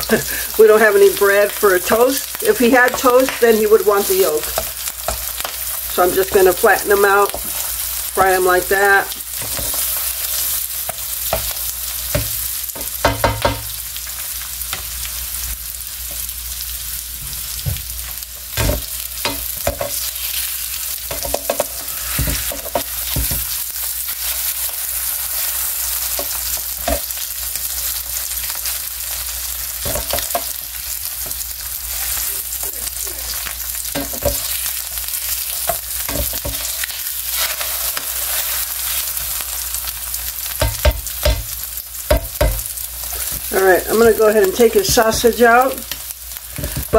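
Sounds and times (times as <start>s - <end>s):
food sizzling in a skillet: 0.0s - 46.9s.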